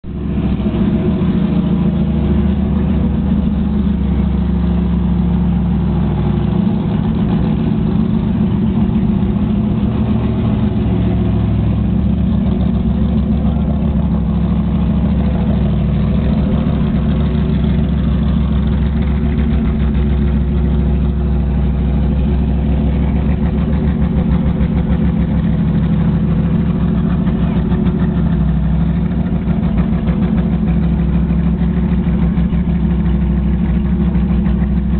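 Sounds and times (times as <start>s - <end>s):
race car engine idling loudly: 0.0s - 34.9s.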